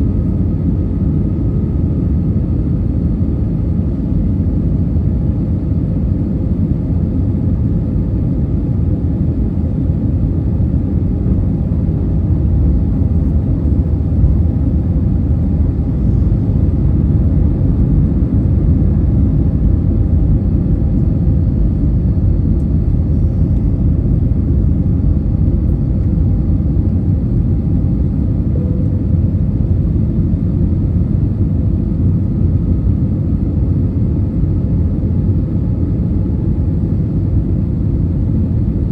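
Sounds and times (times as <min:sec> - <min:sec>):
airliner cabin drone: 0:00.0 - 0:38.9
faint steady hum: 0:05.4 - 0:38.9.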